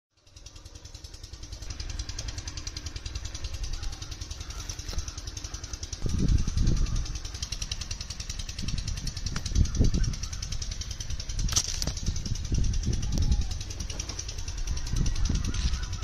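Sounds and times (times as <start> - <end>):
engine running with fast pulsing: 0.1 - 16.0
low rumbling bursts: 0.2 - 16.0.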